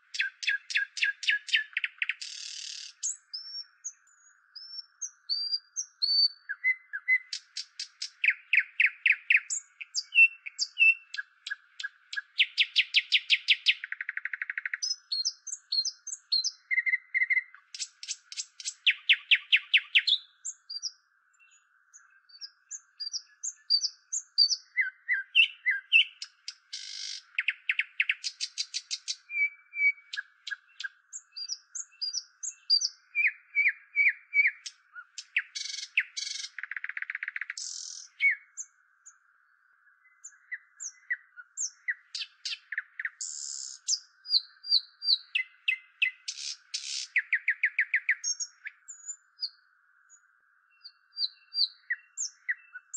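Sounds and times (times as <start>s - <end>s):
nightingale singing: 0.0s - 52.9s.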